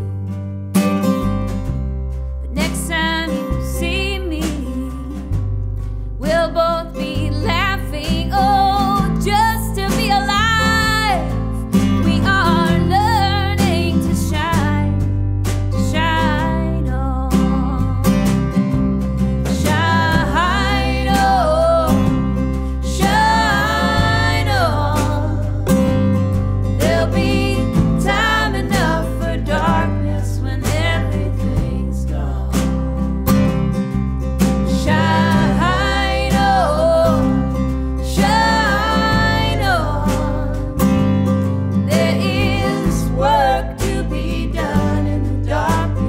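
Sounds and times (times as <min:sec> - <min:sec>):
electric bass: 0:00.0 - 0:46.0
strummed acoustic guitar: 0:00.0 - 0:46.0
woman singing: 0:02.5 - 0:05.4, 0:06.2 - 0:15.1, 0:15.7 - 0:18.4, 0:19.4 - 0:25.8, 0:26.8 - 0:33.0, 0:34.7 - 0:40.8, 0:41.9 - 0:46.0.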